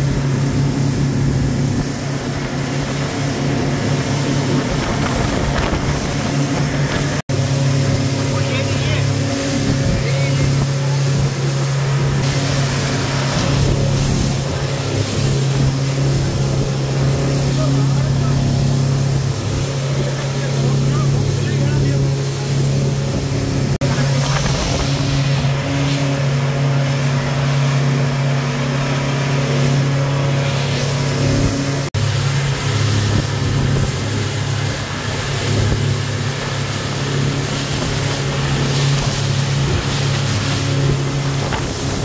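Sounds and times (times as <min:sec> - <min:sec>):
rush of water and wind: 0:00.0 - 0:42.0
speedboat engine running: 0:00.0 - 0:42.0.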